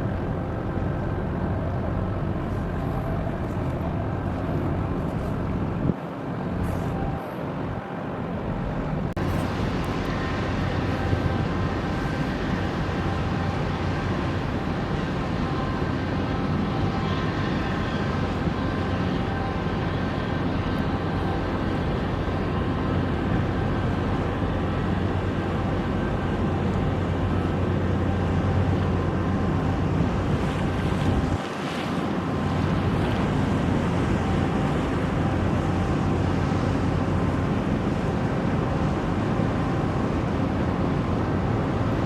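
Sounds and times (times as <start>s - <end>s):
ship engines droning: 0.0s - 42.0s.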